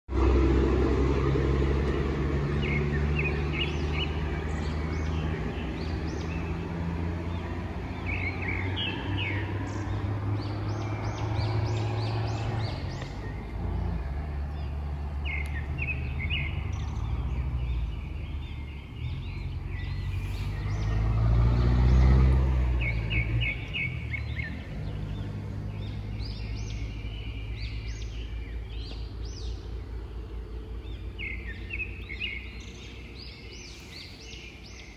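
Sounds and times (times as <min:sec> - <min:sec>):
road traffic rumble: 0:00.1 - 0:34.9
vehicle passing: 0:00.1 - 0:34.9
small birds chirping: 0:01.1 - 0:34.9.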